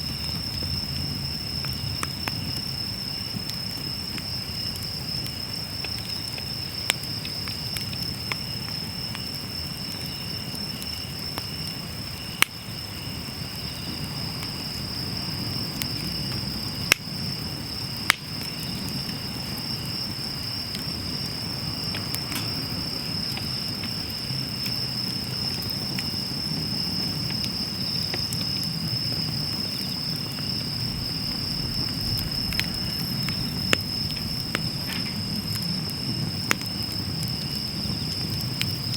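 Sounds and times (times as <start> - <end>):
fire rumbling and crackling: 0.0 - 38.9
insect trill: 0.0 - 38.9.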